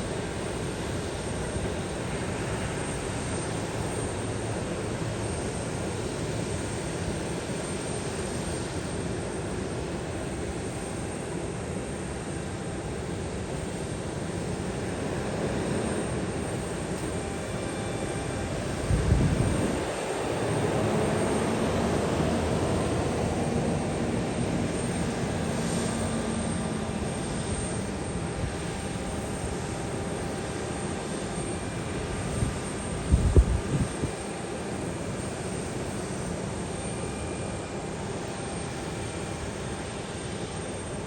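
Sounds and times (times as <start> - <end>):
airliner engines roaring: 0.0 - 41.0.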